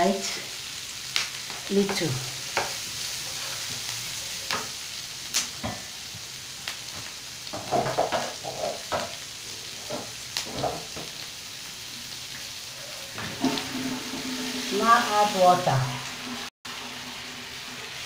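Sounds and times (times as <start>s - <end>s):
vegetables sizzling in a frying pan: 0.0s - 18.0s.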